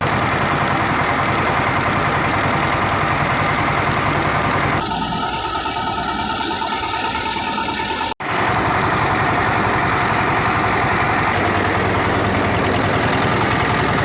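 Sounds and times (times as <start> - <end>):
steady whining tones: 0.0 - 14.0
vehicle engine ticking: 0.0 - 14.0.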